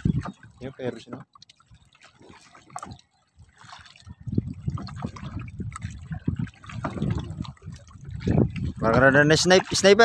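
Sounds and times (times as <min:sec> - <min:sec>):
water splashing and dripping off net: 0:00.0 - 0:10.0.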